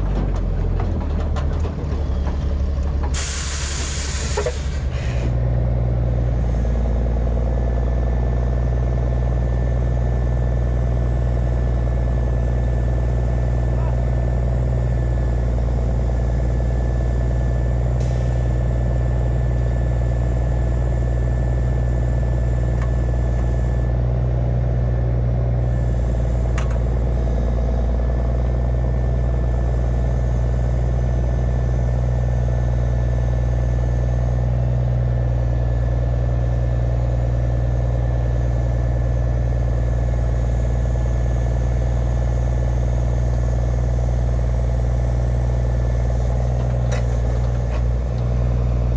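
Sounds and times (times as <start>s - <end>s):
heavy engine running: 0.0s - 48.9s.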